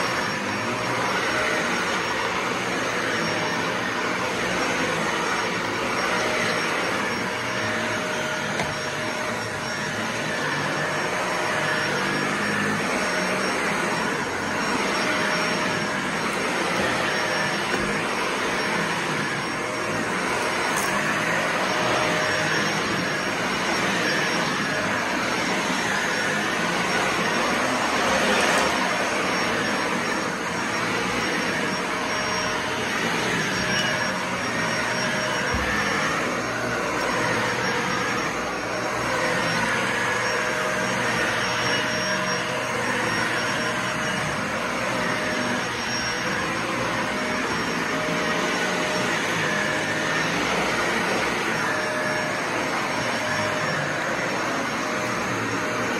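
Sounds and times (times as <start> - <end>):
upright vacuum cleaner running: 0.0 - 55.9.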